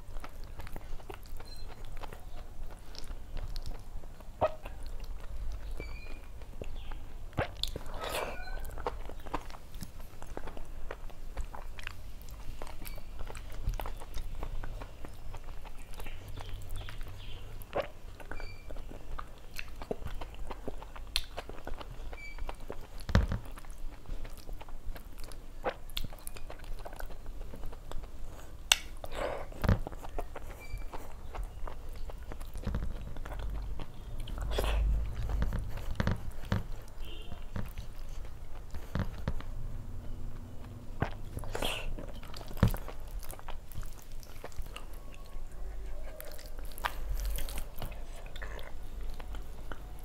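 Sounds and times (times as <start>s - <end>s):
wet chewing and mouth smacks: 0.0s - 50.0s.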